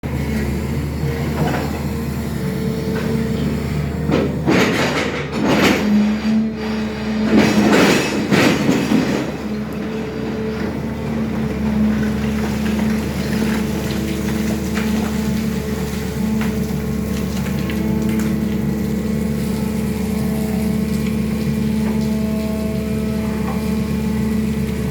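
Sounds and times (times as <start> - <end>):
excavator engine droning: 0.0 - 24.9.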